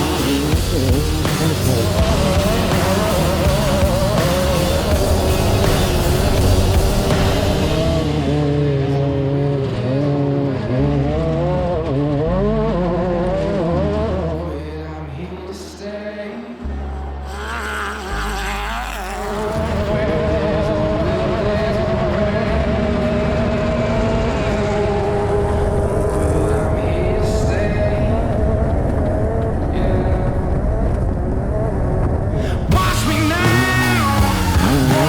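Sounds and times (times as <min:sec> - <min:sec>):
music: 0:00.0 - 0:35.0
race car engine: 0:00.0 - 0:35.0.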